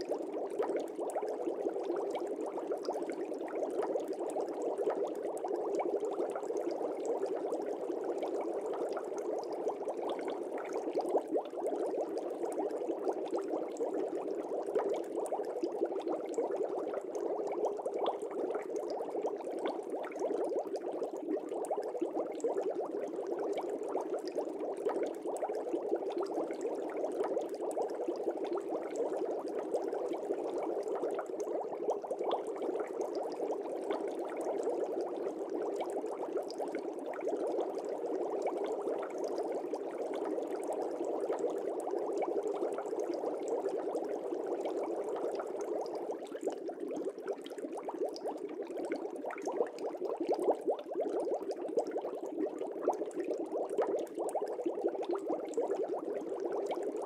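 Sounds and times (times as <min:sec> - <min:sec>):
aquarium air bubbling: 0:08.9 - 0:57.0.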